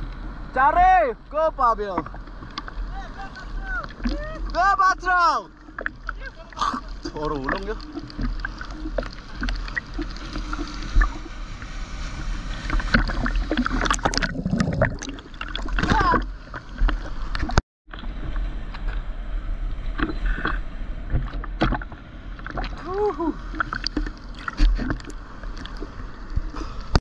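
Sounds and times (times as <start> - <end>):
constant low rumble: 0.0 - 27.0
water sloshing and splashing: 1.8 - 19.1, 19.8 - 27.0.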